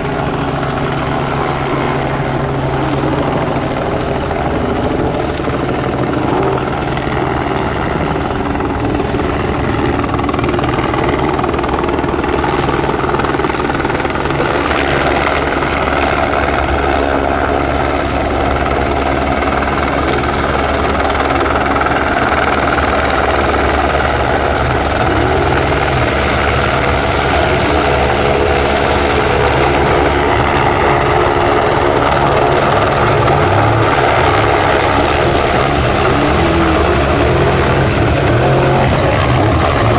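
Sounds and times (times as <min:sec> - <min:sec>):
helicopter flying overhead: 0:00.0 - 0:39.9.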